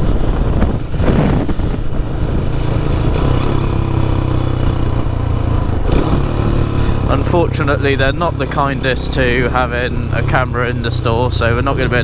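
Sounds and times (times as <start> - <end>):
small motorcycle engine drone: 0.0 - 12.0.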